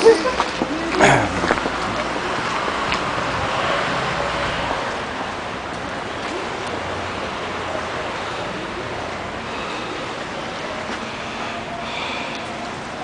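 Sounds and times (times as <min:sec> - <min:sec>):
street traffic hiss and rumble: 0:00.0 - 0:13.0.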